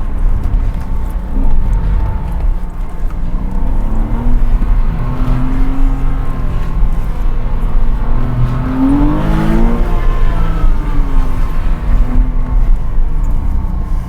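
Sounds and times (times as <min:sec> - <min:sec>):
sports car engine revving: 0:00.0 - 0:14.0.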